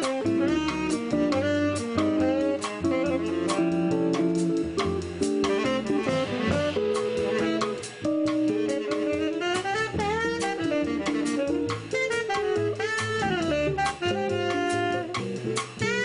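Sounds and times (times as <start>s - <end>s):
drum kit with cymbals: 0.0s - 16.0s
guitar: 0.0s - 16.0s
plucked upright bass: 0.0s - 16.0s
saxophone melody: 0.0s - 16.0s.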